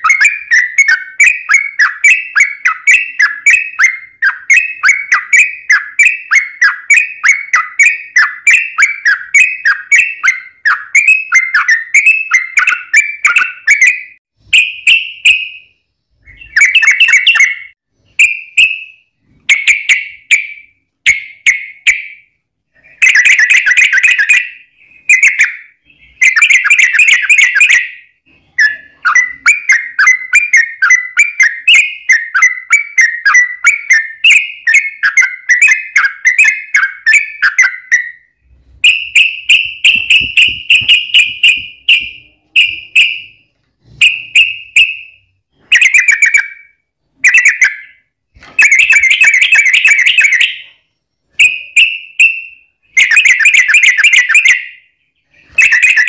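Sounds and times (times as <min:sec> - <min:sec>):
bird singing quick chirps: 0:00.0 - 0:46.6.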